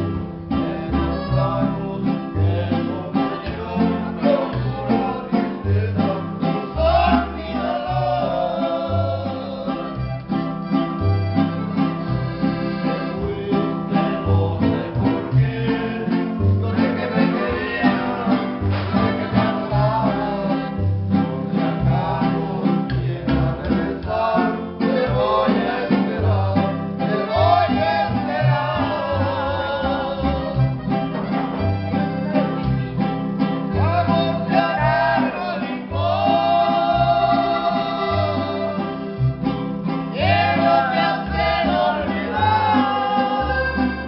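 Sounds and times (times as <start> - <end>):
button accordion: 0.0 - 44.0
steady bass line: 0.0 - 44.0
strummed guitars: 0.0 - 44.0
person singing: 0.5 - 10.1, 12.8 - 31.0, 33.8 - 39.1, 40.1 - 44.0.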